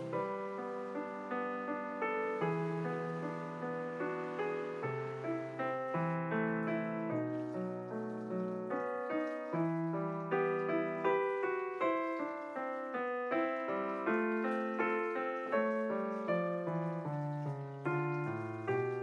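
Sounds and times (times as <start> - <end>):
piano notes and chords: 0.0 - 19.0.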